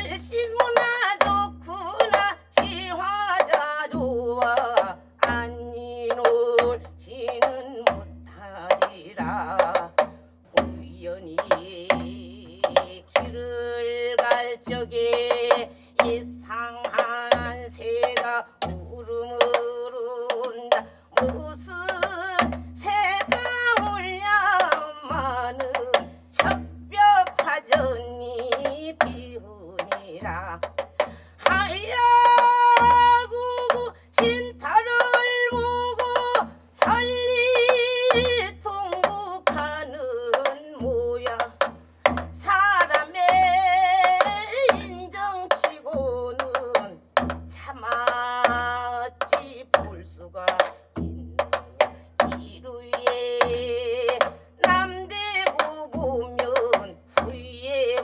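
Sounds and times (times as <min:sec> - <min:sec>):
barrel drum beat: 0:00.0 - 0:58.0
woman singing folk song: 0:00.0 - 0:58.0.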